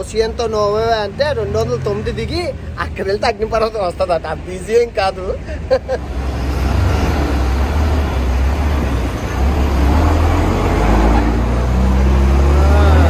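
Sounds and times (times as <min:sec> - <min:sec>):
bus engine rumbling: 0:00.0 - 0:13.0
street traffic: 0:00.0 - 0:13.0.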